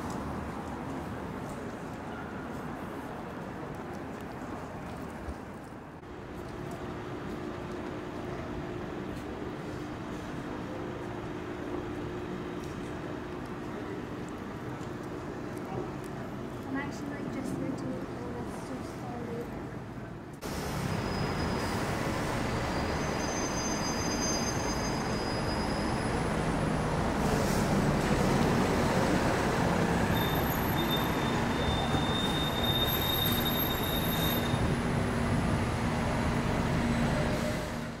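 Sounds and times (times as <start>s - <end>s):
buses and cars passing: 0.0s - 38.0s.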